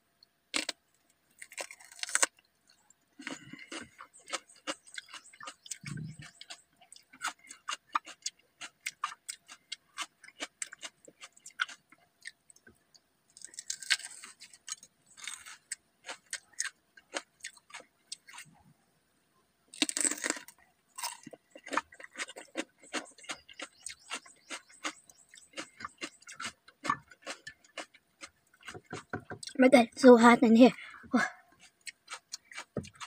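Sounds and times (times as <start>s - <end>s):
chewing crunchy vegetables: 0.6s - 18.6s, 19.8s - 29.7s, 31.5s - 33.0s.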